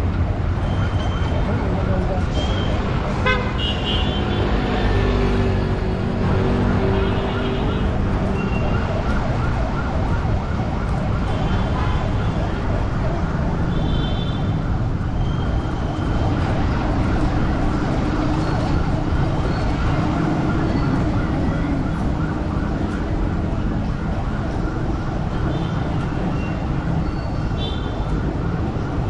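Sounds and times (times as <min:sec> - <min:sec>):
siren yelping: 0:04.5 - 0:29.0.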